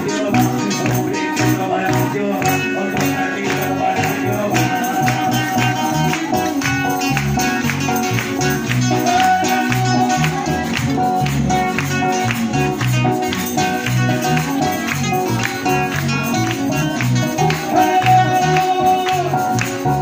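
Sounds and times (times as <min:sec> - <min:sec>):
electric guitar: 0:00.0 - 0:20.0
pulsing bass notes: 0:00.0 - 0:20.0.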